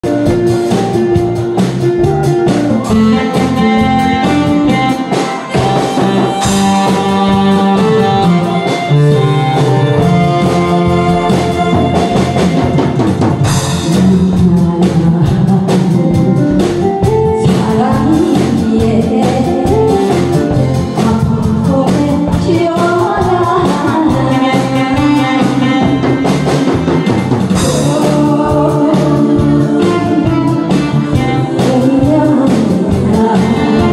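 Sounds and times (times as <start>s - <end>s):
karaoke backing track: 0.0s - 33.9s
woman singing into microphone: 2.8s - 12.7s, 13.7s - 26.3s, 27.6s - 33.9s.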